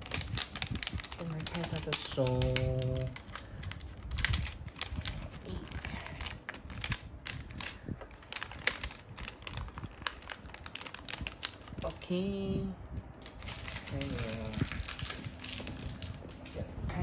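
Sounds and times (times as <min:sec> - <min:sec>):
plastic wrapping crinkling: 0:00.0 - 0:12.1, 0:13.2 - 0:16.7.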